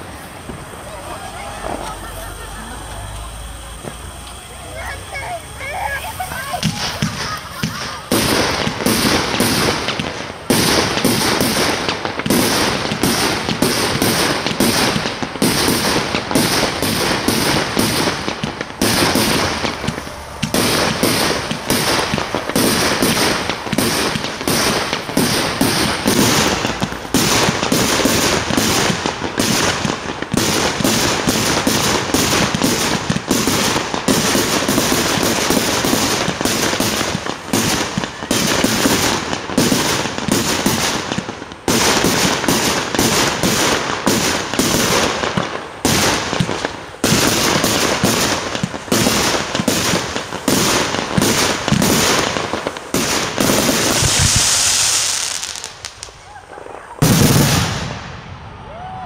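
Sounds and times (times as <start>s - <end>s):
fireworks launch thumps and bursts: 0.0s - 1.0s, 2.8s - 5.6s, 6.3s - 56.2s, 56.8s - 58.3s.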